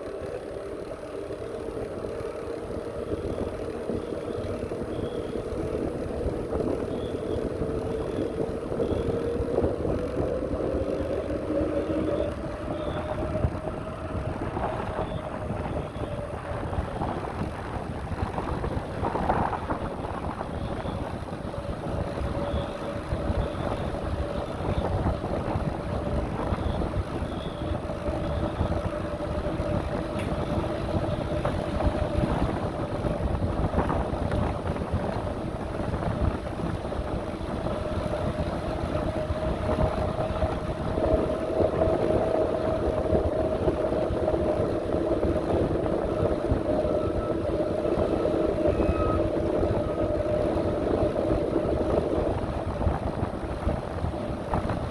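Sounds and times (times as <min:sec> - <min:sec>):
bicycle tyres rolling on path: 0:00.0 - 0:54.9
steady mid-pitched whine: 0:00.0 - 0:54.9
wind on microphone: 0:00.0 - 0:54.9.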